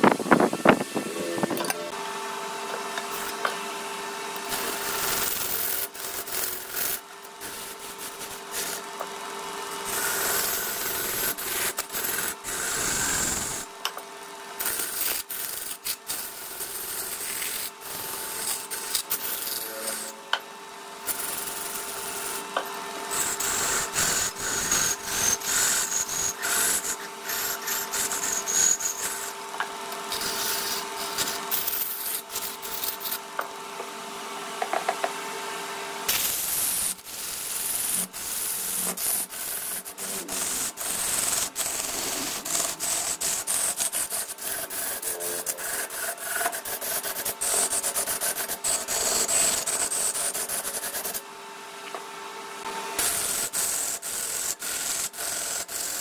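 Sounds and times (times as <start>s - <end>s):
tool scraping spinning wood: 0.0s - 2.0s, 2.7s - 33.9s, 36.1s - 51.3s, 53.0s - 56.0s
lathe motor hum: 0.0s - 35.2s, 36.5s - 52.0s.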